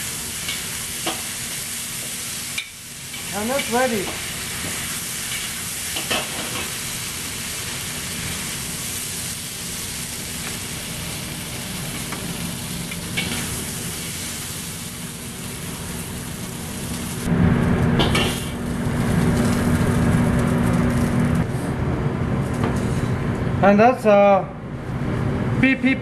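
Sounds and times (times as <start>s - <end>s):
food sizzling in a wok: 0.0s - 21.7s.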